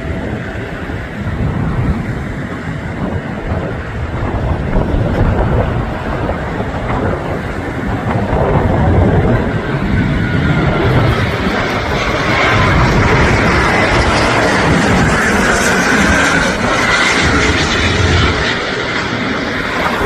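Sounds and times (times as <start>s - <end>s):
jet plane landing: 0.0s - 20.0s
wind buffeting microphone: 0.0s - 20.0s.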